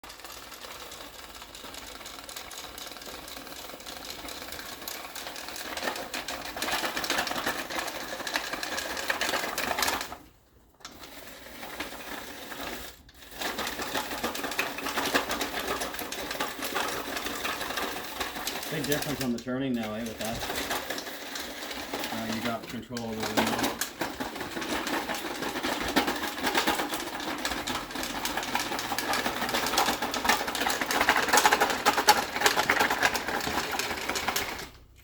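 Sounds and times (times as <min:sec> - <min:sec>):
toy robot motors whirring: 0:00.0 - 0:10.2, 0:10.8 - 0:35.0.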